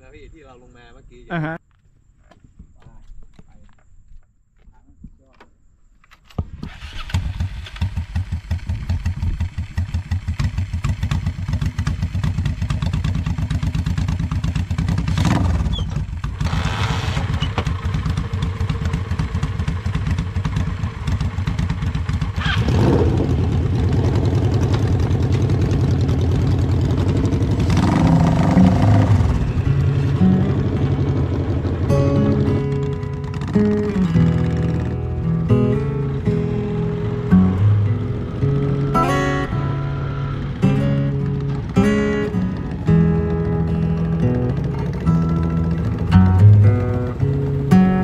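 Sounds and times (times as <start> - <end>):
motorcycle engine revving: 6.4 - 48.0.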